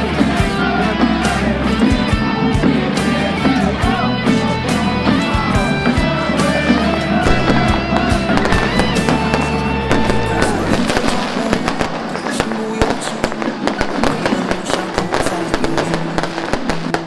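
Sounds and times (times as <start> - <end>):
firecrackers crackling: 0.0 - 17.0
music with held tones: 0.0 - 17.0.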